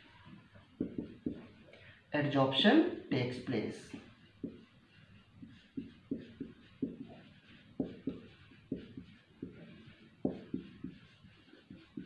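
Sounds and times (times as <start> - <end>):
marker writing on whiteboard: 0.1 - 1.7, 3.9 - 12.0.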